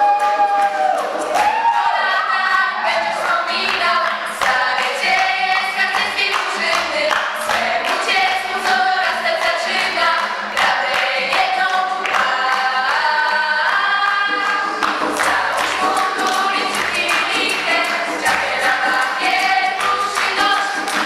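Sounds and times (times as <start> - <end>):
acoustic guitar: 0.0 - 21.0
girls choir singing: 1.4 - 21.0.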